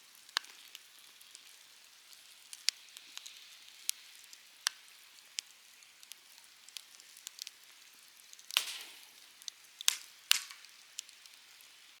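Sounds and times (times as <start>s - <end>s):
fire popping: 0.0s - 12.0s
wood campfire crackling: 0.0s - 12.0s.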